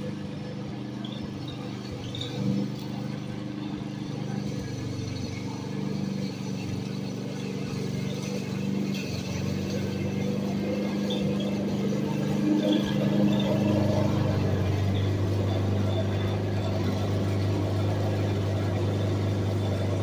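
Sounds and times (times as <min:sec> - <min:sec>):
lawn mower engine cutting grass: 0:00.0 - 0:20.0.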